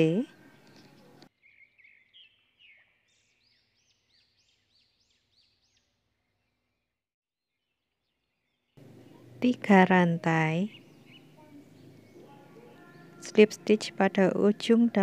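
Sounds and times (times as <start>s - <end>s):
faint bird singing: 0.2s - 15.0s.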